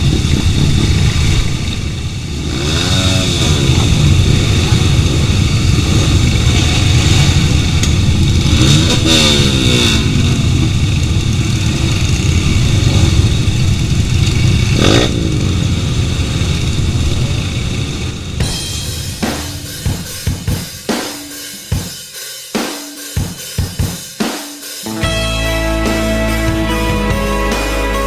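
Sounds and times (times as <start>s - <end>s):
motorcycle engines rumbling: 0.0s - 22.0s, 24.8s - 28.0s.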